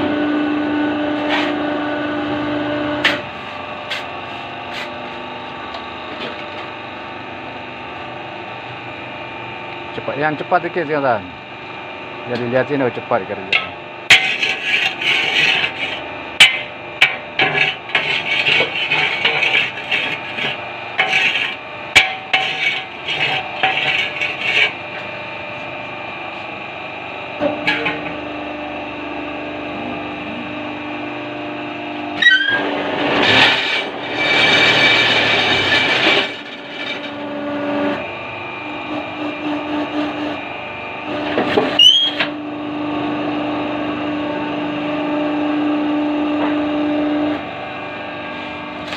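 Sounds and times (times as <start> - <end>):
machine humming: 0.0 - 46.4.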